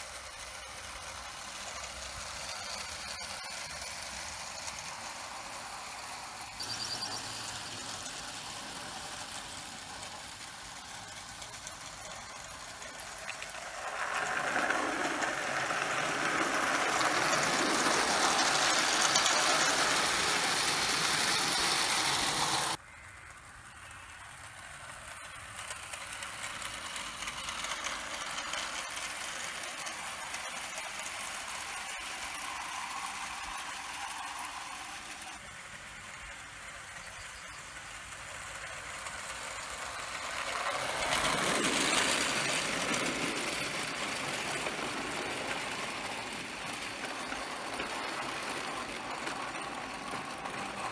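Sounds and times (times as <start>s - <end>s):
model train wheels clattering on rails: 0.0s - 50.9s.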